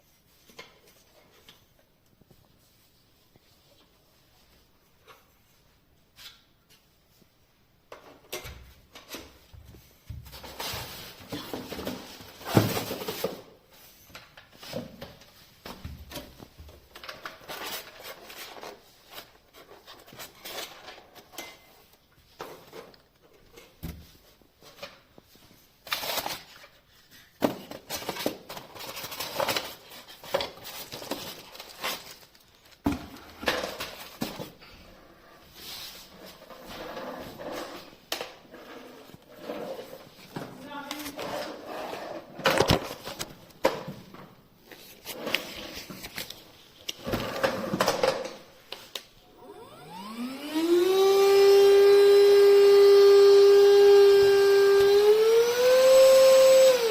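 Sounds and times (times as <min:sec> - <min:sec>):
rustling handling noises: 0:00.0 - 0:41.6, 0:42.6 - 0:47.0.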